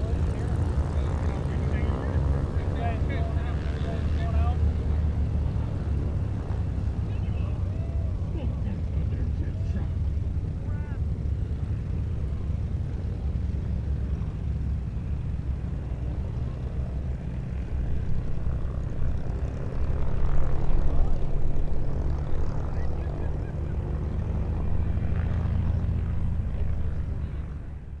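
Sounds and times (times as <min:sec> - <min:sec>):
helicopter rotor and engine: 0:00.0 - 0:28.0.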